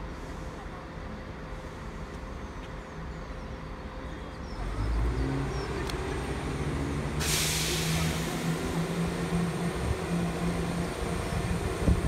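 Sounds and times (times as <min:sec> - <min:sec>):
train diesel engines idling: 0:00.0 - 0:12.0.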